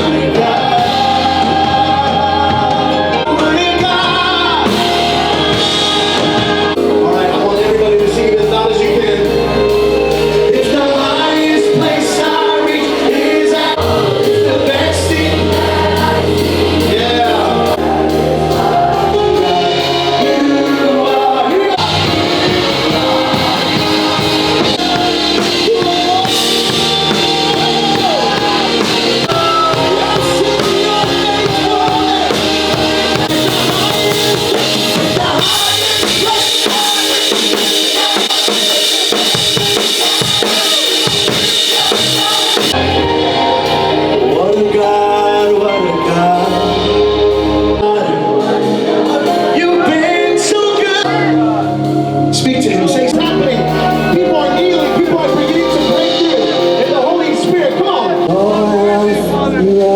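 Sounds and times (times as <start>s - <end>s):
band playing worship song: 0.0s - 59.9s
drum kit: 0.0s - 59.9s
person singing: 0.0s - 59.9s.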